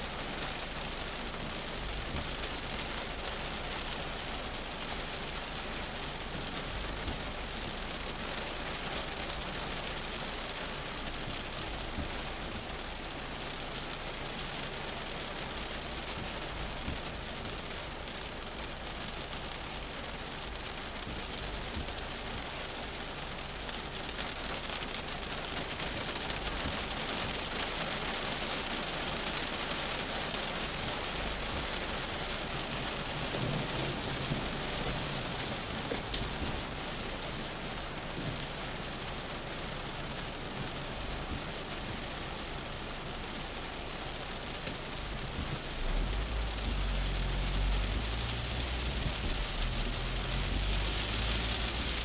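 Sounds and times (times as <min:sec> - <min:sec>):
heavy rain on car roof: 0:00.0 - 0:52.0.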